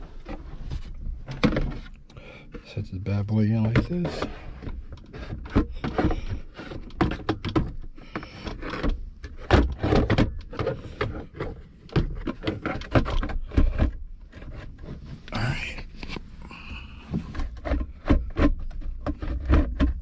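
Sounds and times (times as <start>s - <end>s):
plastic armrest knocking and scraping: 0.0s - 2.8s, 3.4s - 20.0s.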